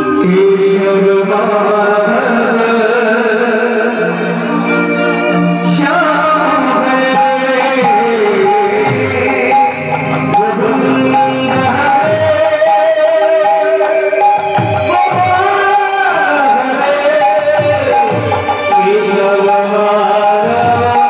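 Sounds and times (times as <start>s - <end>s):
electronic keyboard melody: 0.0s - 21.0s.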